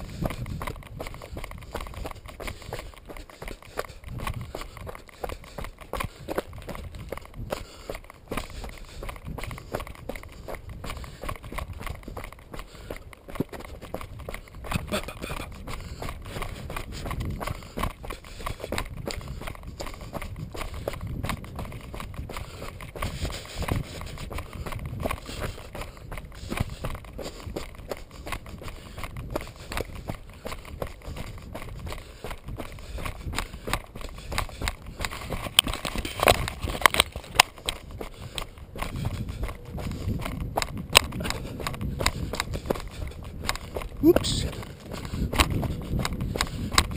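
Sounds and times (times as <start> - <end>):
bike knocking and rattling: 0.0 - 46.9
low wind rumble on microphone: 0.0 - 46.9
tyres crunching over stones: 0.0 - 46.9.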